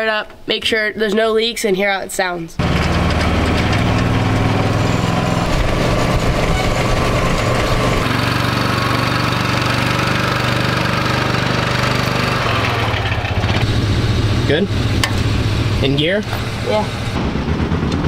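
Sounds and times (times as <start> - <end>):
sprint car engine running: 2.6 - 18.0.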